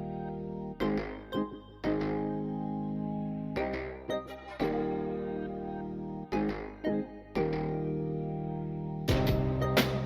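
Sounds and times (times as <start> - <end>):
sustained keyboard chords: 0.0 - 10.0.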